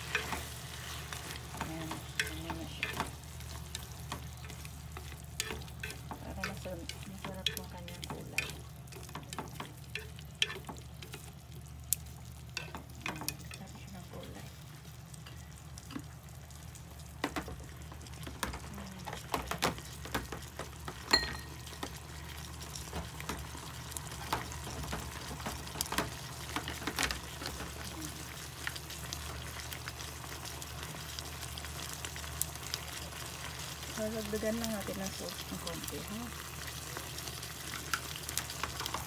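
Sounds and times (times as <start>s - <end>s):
food sizzling in a pot: 0.0s - 39.0s.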